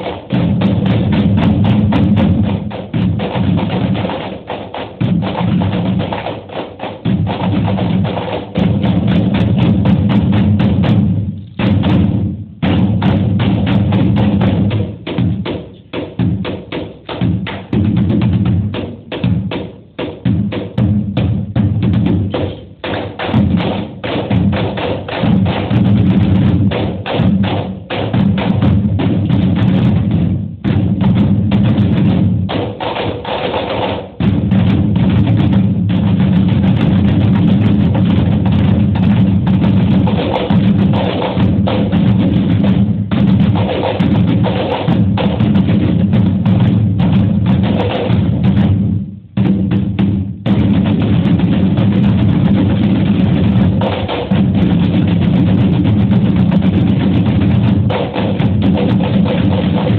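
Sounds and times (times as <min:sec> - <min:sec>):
drumming on plastic buckets: 0:00.0 - 0:59.9.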